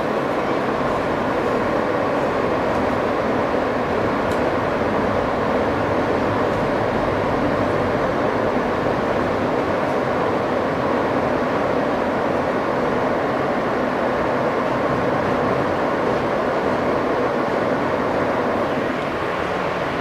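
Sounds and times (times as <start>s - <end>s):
subway motor hum: 0.0s - 20.0s
subway wheel and track noise: 0.0s - 20.0s.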